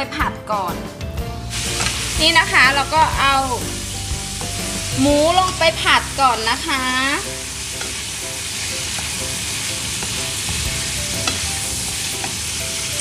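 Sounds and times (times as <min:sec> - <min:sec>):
meat sizzling in hot oil: 0:01.3 - 0:13.0.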